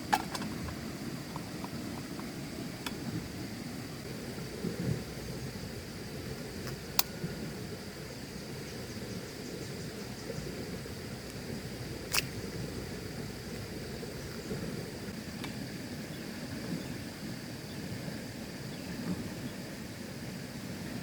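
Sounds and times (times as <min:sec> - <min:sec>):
rain on a shelter: 0:00.0 - 0:08.6, 0:10.0 - 0:21.0
high insect trill: 0:00.0 - 0:20.1.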